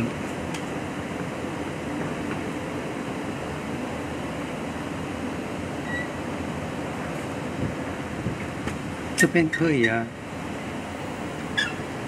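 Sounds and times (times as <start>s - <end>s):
ventilation hum and hiss: 0.0s - 12.0s.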